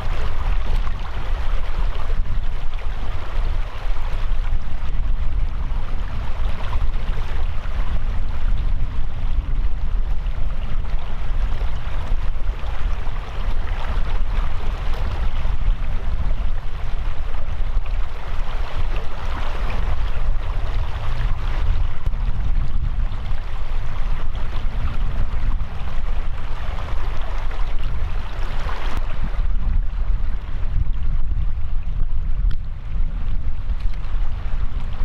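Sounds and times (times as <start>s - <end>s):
mountain stream rushing: 0.0s - 30.9s
wind rumbling on microphone: 0.0s - 35.0s.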